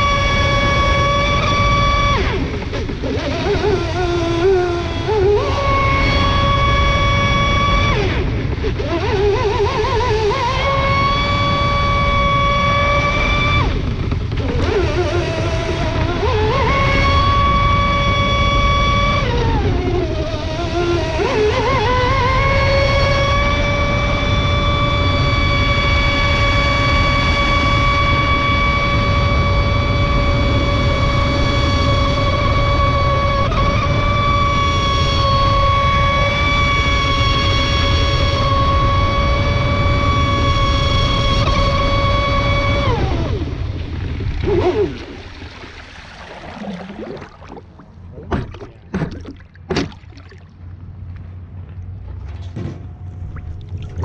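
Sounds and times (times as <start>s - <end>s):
electric motor whining: 0.0s - 45.7s
water rushing against hull: 0.0s - 54.0s.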